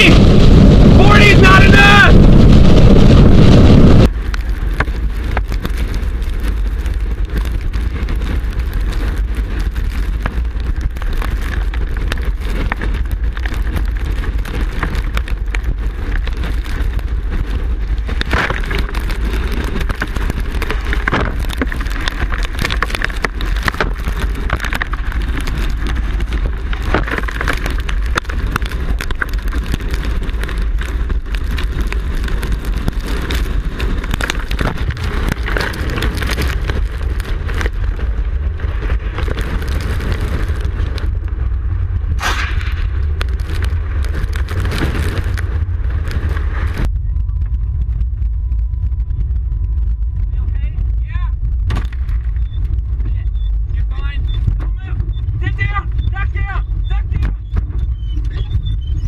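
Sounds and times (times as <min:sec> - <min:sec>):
heavy rain pelting a vehicle: 0:00.0 - 0:42.0, 0:43.0 - 0:46.9, 0:48.2 - 0:59.0
steady low rumble: 0:00.0 - 0:59.0.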